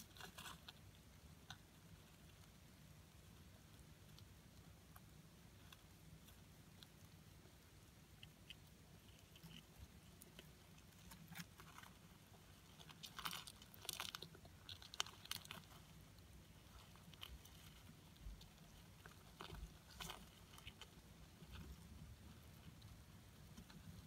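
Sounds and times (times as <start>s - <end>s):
cockroaches feeding clicks: 0.0s - 24.0s
low steady hum: 0.0s - 24.0s.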